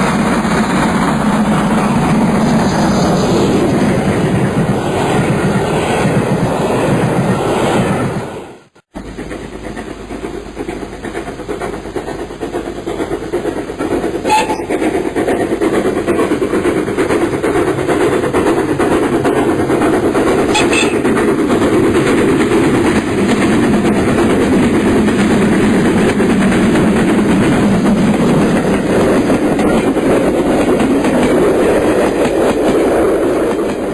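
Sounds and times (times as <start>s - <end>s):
train rumbling on rails: 0.0s - 33.9s.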